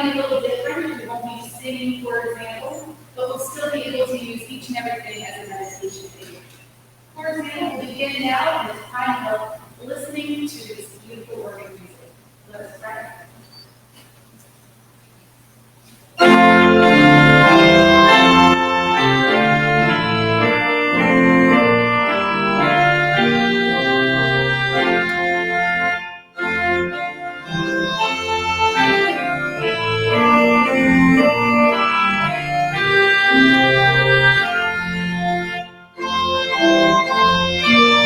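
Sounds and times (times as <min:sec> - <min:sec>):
organ playing sustained chords: 0:00.0 - 0:13.7, 0:16.2 - 0:38.0.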